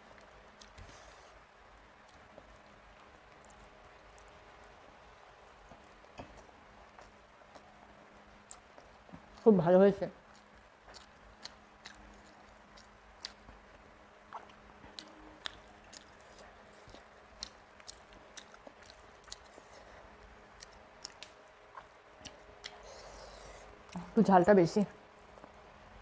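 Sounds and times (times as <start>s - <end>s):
close-miked chewing: 0.1s - 24.2s.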